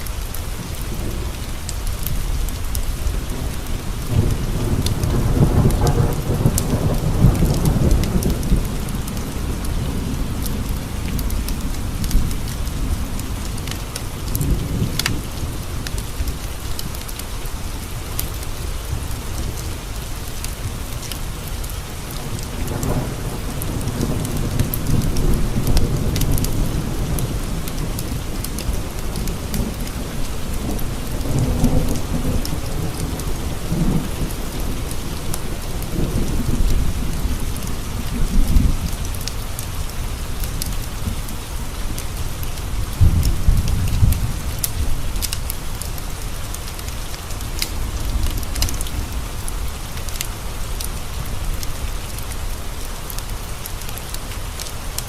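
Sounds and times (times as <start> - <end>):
steady rain: 0.0 - 55.0
thunder rumbling: 0.5 - 53.4.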